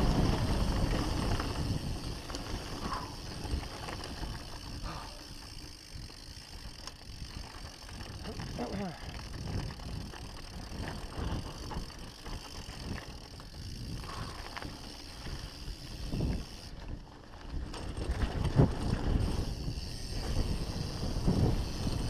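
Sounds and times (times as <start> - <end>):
bike rattling: 0.0 - 22.0
bike tyres rumbling over stones: 0.0 - 22.0
wind buffeting microphone: 0.0 - 22.0.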